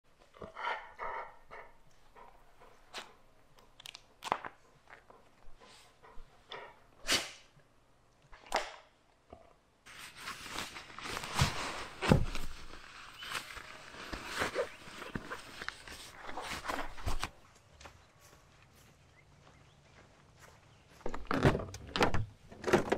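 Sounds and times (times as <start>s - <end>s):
outdoor background noise: 0.0s - 22.9s.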